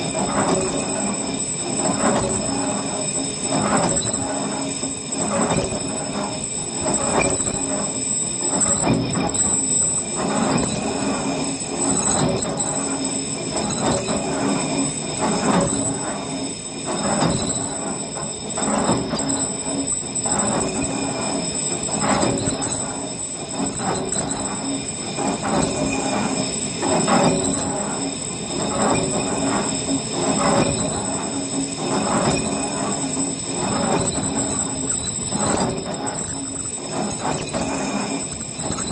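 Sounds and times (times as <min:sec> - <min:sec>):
lathe tool squealing on metal: 0:00.0 - 0:38.9.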